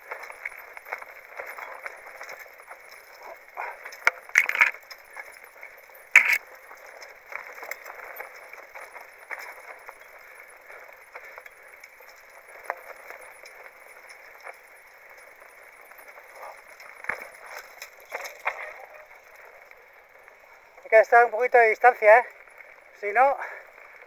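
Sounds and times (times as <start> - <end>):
mountain bike rattling and clicking: 0.0 - 24.0.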